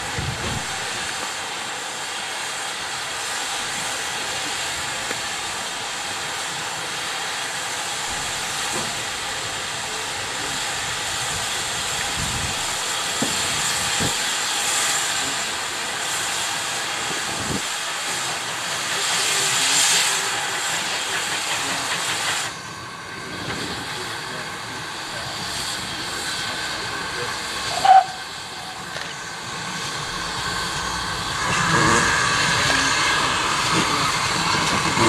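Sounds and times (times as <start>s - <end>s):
steam hissing from locomotive: 0.0s - 35.0s.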